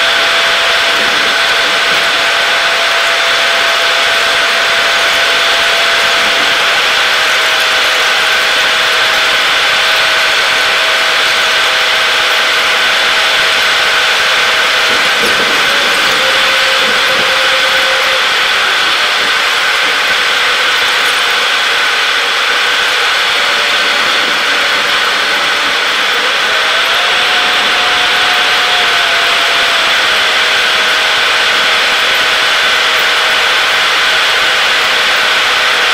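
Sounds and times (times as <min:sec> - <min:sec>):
airplane cabin noise: 0:00.0 - 0:35.9
faint steady whine: 0:00.0 - 0:35.9
jet engines and air rush: 0:00.0 - 0:35.9.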